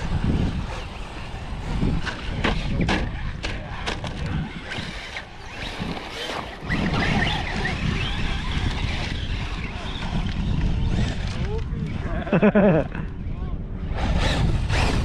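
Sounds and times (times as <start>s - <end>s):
electric motor whine: 0.0s - 12.1s.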